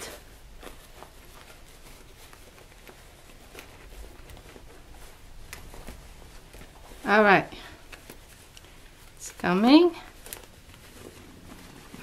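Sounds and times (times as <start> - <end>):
fabric rustling and rubbing: 0.0 - 12.0.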